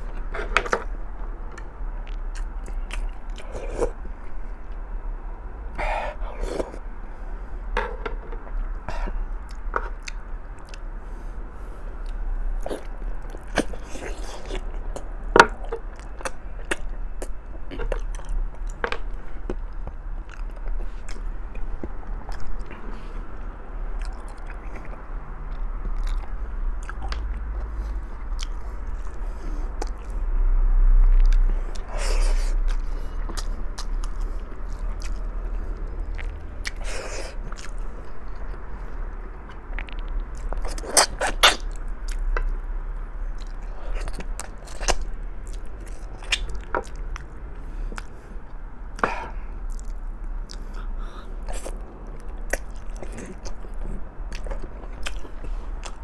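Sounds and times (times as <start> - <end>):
chewing and biting food: 0.0 - 4.8, 5.8 - 6.9, 7.7 - 10.9, 11.9 - 30.2, 31.1 - 56.0
steady low hum: 0.0 - 56.0.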